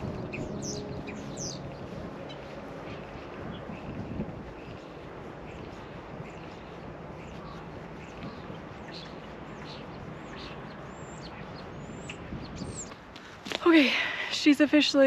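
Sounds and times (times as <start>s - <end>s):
songbirds chirping: 0.0s - 15.0s
wind noise on microphone: 0.0s - 15.0s.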